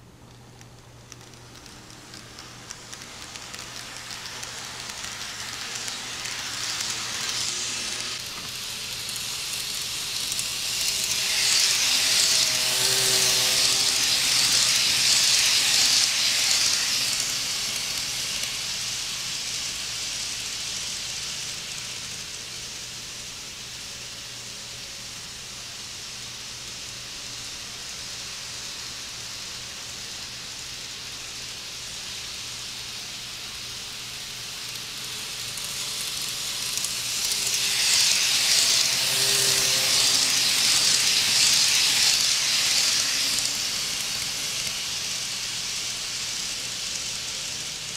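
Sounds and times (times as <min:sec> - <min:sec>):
model train wheels and motor: 0:00.0 - 0:47.9.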